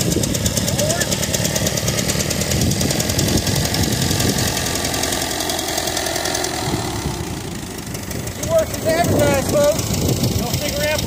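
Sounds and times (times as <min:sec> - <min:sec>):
tractor engine puttering: 0:00.0 - 0:11.0.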